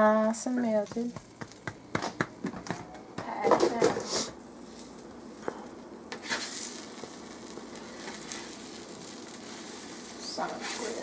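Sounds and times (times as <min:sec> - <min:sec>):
sandwich sizzling on griddle: 0:00.0 - 0:02.0, 0:04.0 - 0:11.0.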